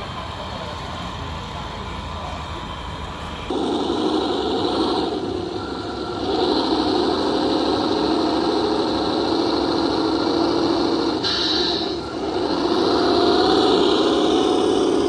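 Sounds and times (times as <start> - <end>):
model engine drone with whine: 0.0 - 15.0.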